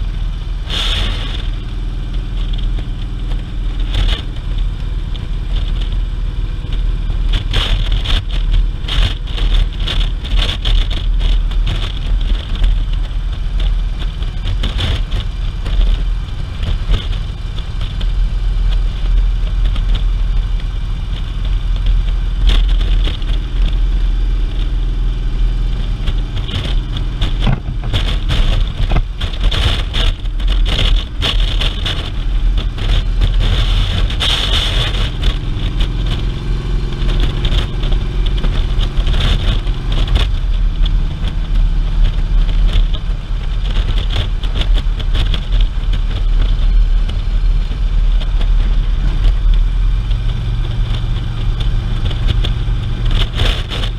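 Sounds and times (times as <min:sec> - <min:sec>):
motorcycle engine drone: 0:00.0 - 0:53.9
wind rushing over microphone: 0:00.0 - 0:53.9.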